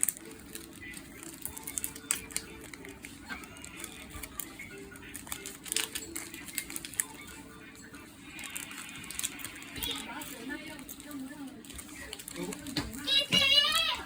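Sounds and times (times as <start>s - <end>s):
faint music with held tones: 0.0s - 14.0s.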